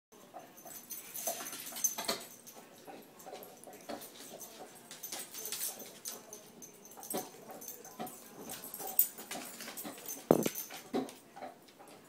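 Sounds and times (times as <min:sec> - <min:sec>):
dogs scuffling: 0:00.6 - 0:11.2.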